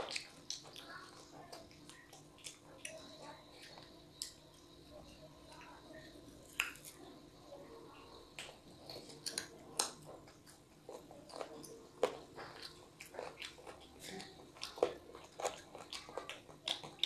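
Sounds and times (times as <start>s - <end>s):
child chewing and mouth smacks: 0.0s - 17.0s.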